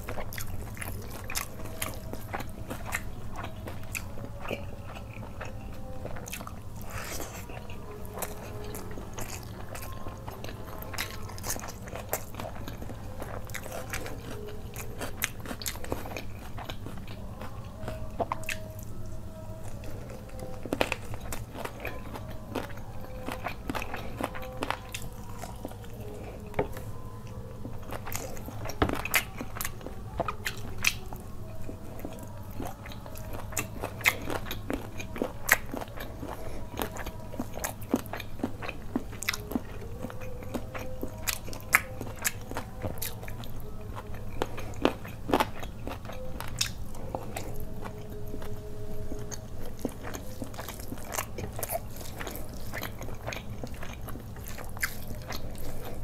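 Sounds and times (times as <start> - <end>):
close chewing and biting: 0.0 - 56.0
food crunching: 0.0 - 56.0.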